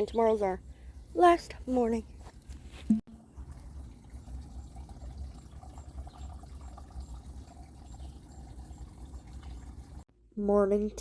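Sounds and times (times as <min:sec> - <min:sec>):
faint running water: 0:00.0 - 0:10.1
low steady rumble: 0:00.0 - 0:11.0.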